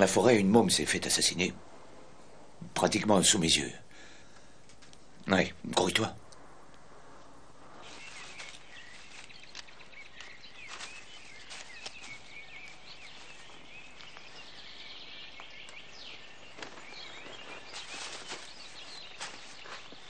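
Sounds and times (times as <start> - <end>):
small birds chirping: 2.5 - 20.0.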